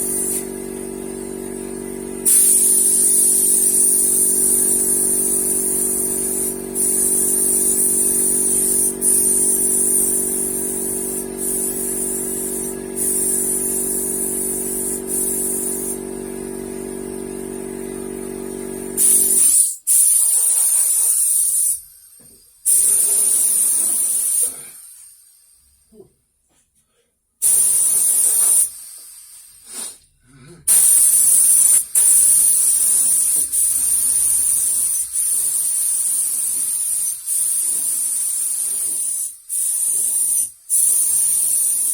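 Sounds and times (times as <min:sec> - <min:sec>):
paint spray gun hissing: 0:00.0 - 0:17.1, 0:19.0 - 0:21.8, 0:22.7 - 0:24.6, 0:27.4 - 0:30.0, 0:30.7 - 0:41.9
air compressor motor running: 0:00.0 - 0:25.1, 0:27.4 - 0:30.0, 0:30.7 - 0:41.9.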